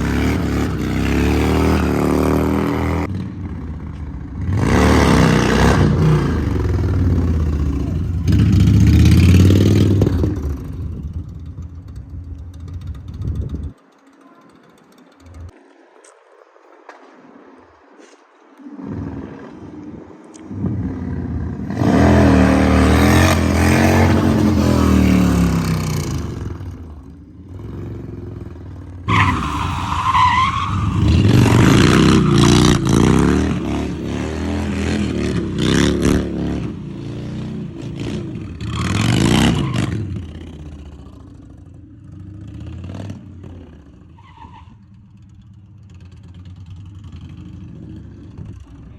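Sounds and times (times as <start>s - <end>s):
motorcycle engine revving: 0.0s - 13.8s, 20.5s - 48.9s.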